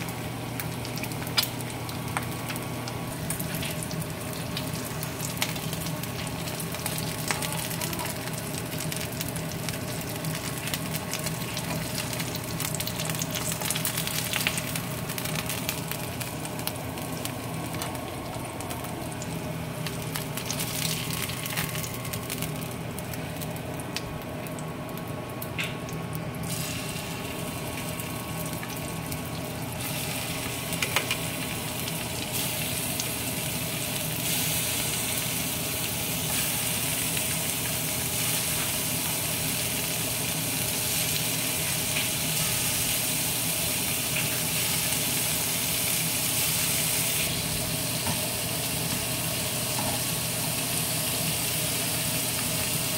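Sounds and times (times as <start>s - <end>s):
oil crackles and pops: 0.0s - 51.3s
oil sizzling in frying pan: 0.0s - 52.9s.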